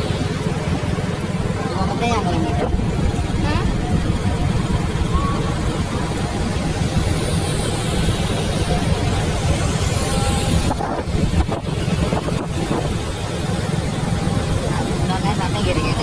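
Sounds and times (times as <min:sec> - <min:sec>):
dense low rumble: 0:00.0 - 0:16.0.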